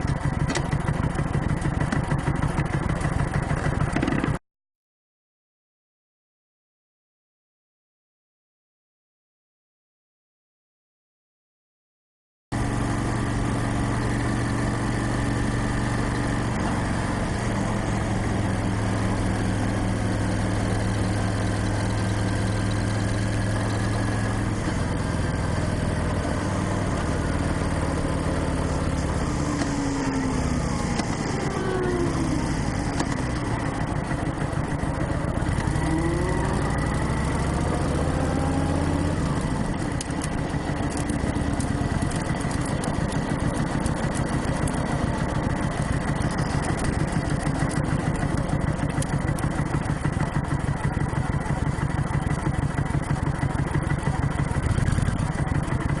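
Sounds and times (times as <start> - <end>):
motorcycle engine humming: 0.0 - 4.4, 12.6 - 56.0.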